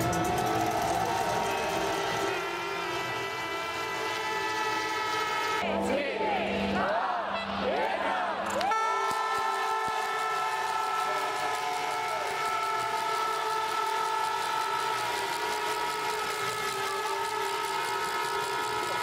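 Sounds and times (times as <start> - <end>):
spectators' horns blaring: 0.0 - 5.8, 8.6 - 19.0
crowd noise: 0.0 - 19.0.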